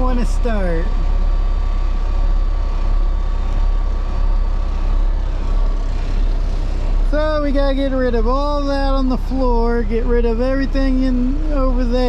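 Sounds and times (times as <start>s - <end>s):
diesel truck engine idling: 0.0s - 12.0s
faint steady whine: 0.0s - 12.0s.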